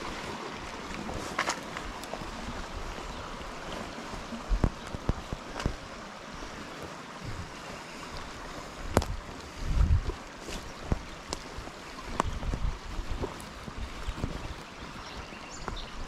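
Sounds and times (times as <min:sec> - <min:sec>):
creek water: 0:00.0 - 0:16.0
wind on microphone: 0:00.0 - 0:16.0.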